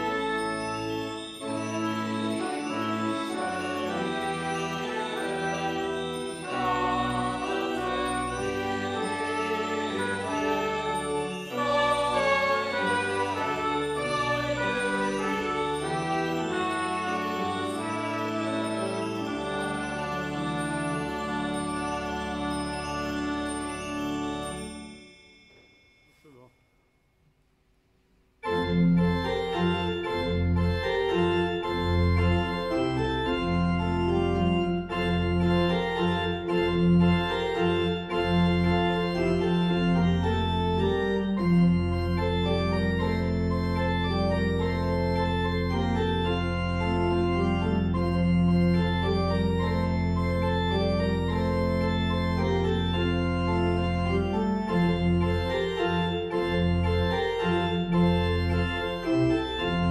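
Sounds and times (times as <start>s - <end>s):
pipe organ playing chords: 0.0s - 25.0s, 28.4s - 59.9s.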